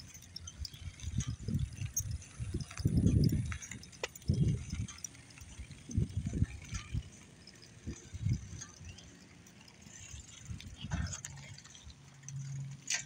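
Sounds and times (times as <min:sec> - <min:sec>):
wind buffeting microphone: 0:00.0 - 0:09.3, 0:10.0 - 0:11.2.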